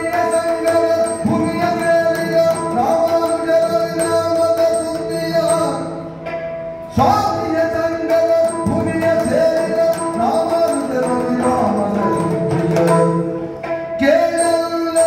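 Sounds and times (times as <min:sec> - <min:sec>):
man singing: 0:00.0 - 0:06.0, 0:06.9 - 0:15.0.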